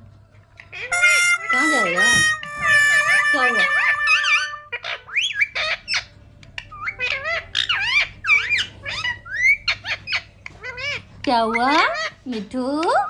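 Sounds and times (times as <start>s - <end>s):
parrot squawking and chirping: 0.5s - 13.0s.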